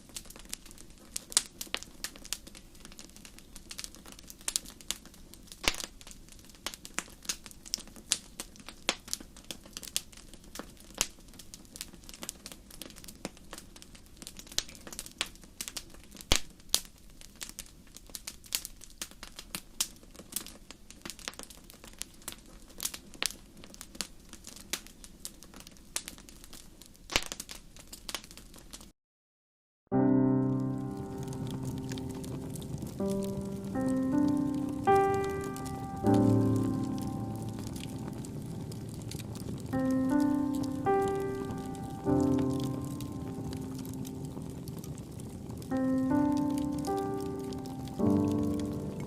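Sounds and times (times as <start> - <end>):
wood fire crackling: 0.0 - 28.9, 30.1 - 49.0.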